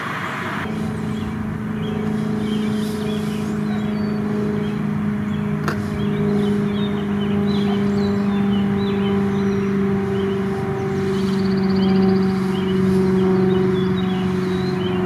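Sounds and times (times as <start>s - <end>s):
engine drone: 0.0s - 15.0s
small birds chirping: 0.6s - 15.0s.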